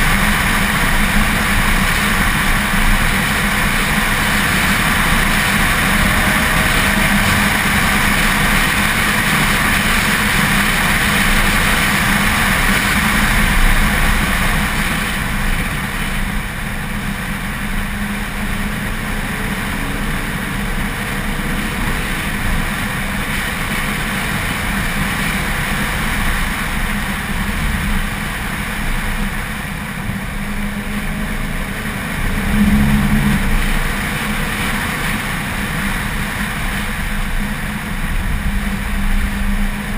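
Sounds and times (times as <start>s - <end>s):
car engine running: 0.0s - 39.9s
wind and road noise: 0.0s - 39.9s.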